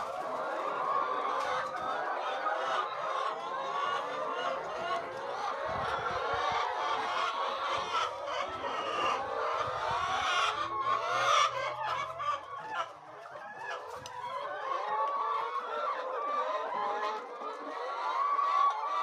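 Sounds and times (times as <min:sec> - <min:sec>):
chickens clucking and calling: 0:00.0 - 0:19.0.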